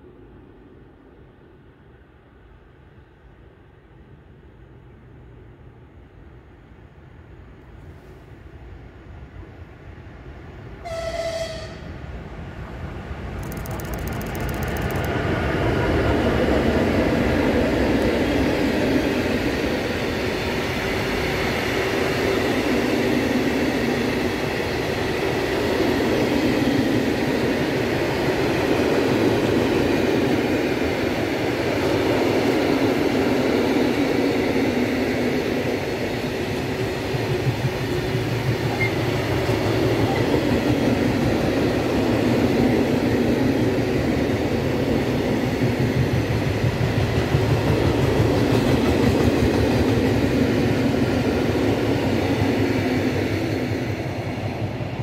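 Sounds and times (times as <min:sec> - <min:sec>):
freight train wheels rumbling: 0:08.4 - 0:55.0.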